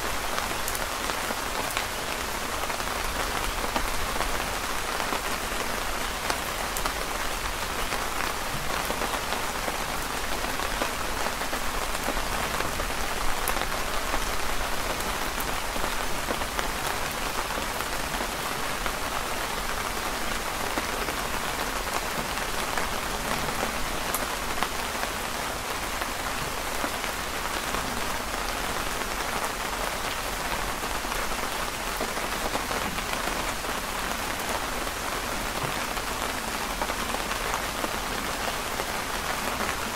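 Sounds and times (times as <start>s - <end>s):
rain falling on a canopy: 0.0s - 39.9s.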